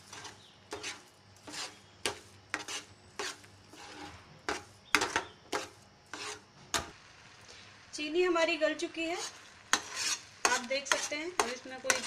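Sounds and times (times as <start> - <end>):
metal spatula scraping a pan: 0.0 - 6.9, 9.1 - 12.0.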